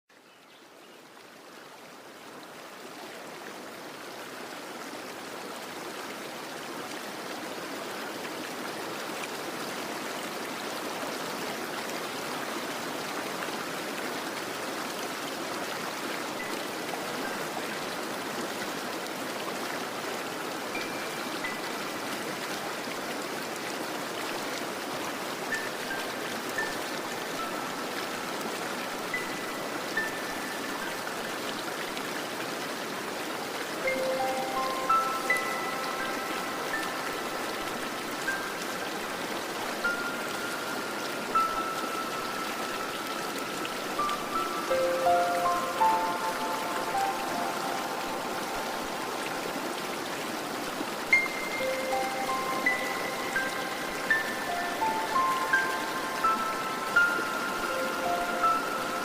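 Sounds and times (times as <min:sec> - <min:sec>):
steady rushing rain water: 0:00.1 - 0:59.0.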